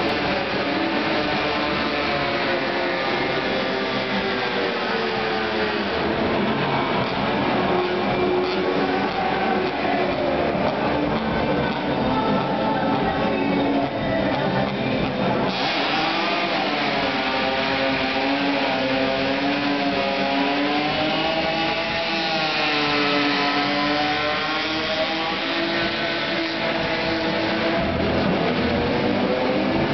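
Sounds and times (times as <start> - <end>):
car engine at high revs: 0.0 - 29.9.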